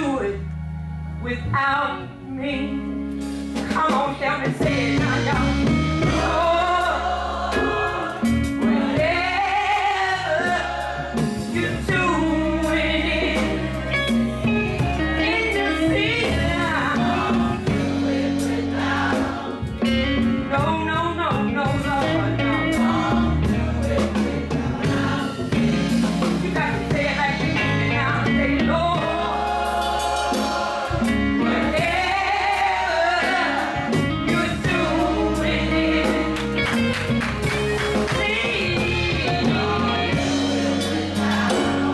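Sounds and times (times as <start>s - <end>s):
low bass line: 0.0s - 32.9s, 33.7s - 41.9s
gospel choir singing: 4.5s - 41.9s.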